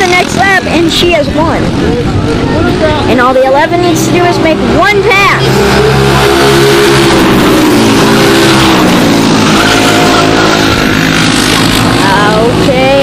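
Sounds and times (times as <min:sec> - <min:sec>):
racing kart engine passing: 0:00.0 - 0:13.0.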